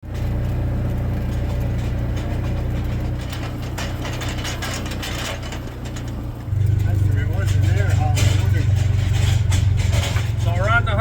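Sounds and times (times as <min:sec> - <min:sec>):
rattling and clicking: 0:00.0 - 0:11.0
vehicle engine humming: 0:00.0 - 0:11.0.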